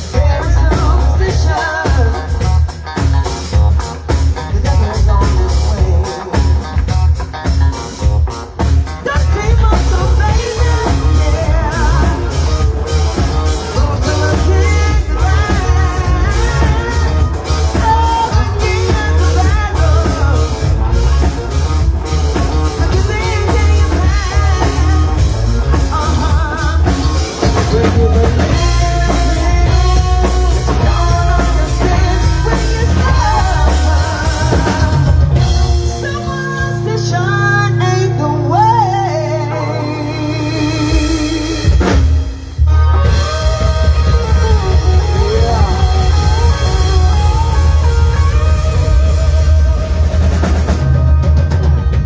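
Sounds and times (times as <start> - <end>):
bass guitar: 0.0 - 52.0
drum kit: 0.0 - 52.0
electric guitar: 0.0 - 52.0
person singing: 0.0 - 52.0.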